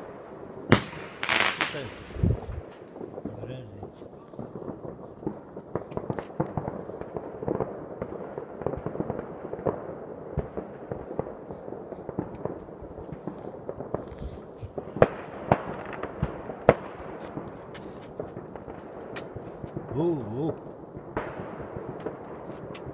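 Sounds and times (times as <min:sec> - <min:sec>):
fireworks and firecrackers crackling: 0:00.0 - 0:22.9
sharp loud firework bangs: 0:00.0 - 0:22.9.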